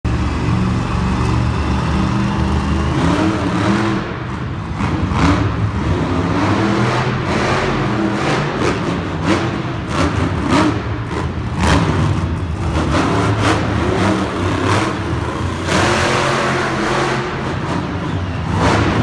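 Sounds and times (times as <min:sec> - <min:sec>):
monster truck engine revving: 0:00.1 - 0:19.0.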